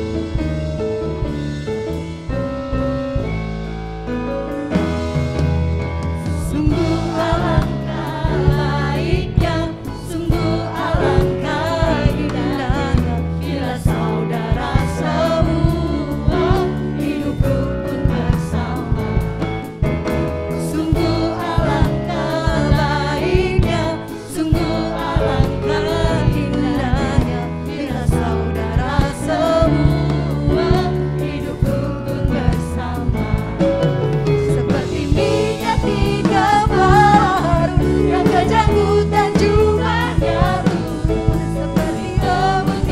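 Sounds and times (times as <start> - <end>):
band with drums and keyboard: 0.0 - 42.9
group of singers: 4.6 - 42.9.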